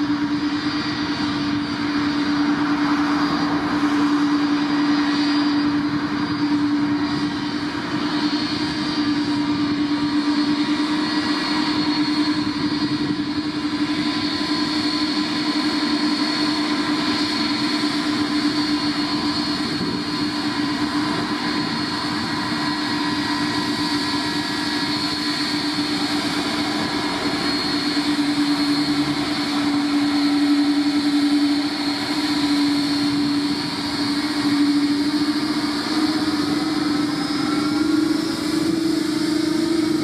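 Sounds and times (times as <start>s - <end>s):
jet engines whining: 0.0s - 40.0s.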